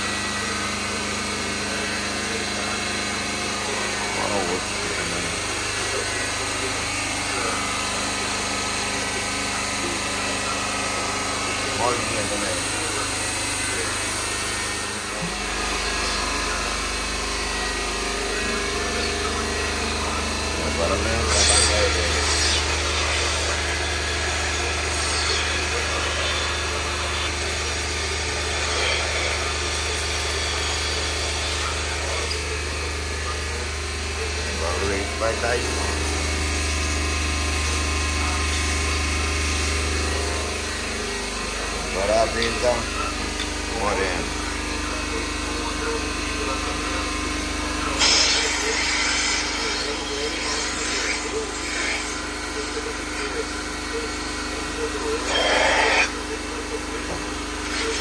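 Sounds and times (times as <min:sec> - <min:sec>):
motor humming: 0:00.0 - 0:58.0.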